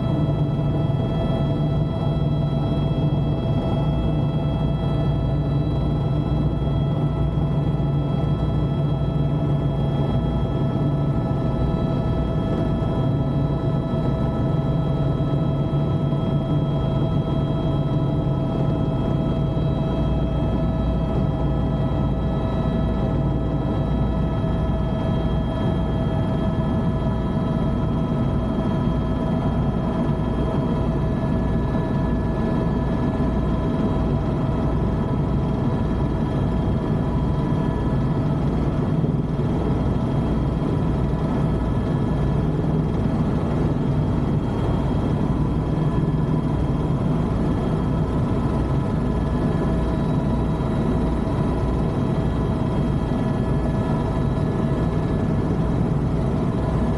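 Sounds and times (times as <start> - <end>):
helicopter rotor beat: 0.0 - 56.9
helicopter turbine whine: 0.0 - 56.9.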